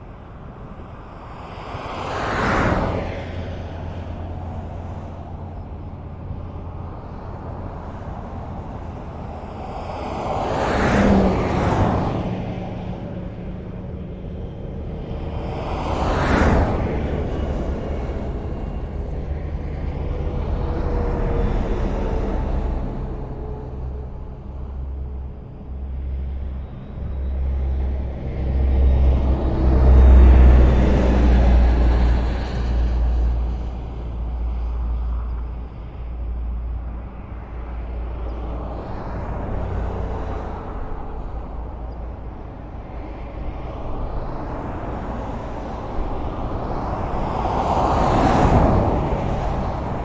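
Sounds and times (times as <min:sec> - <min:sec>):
highway traffic passing: 0:00.0 - 0:50.0.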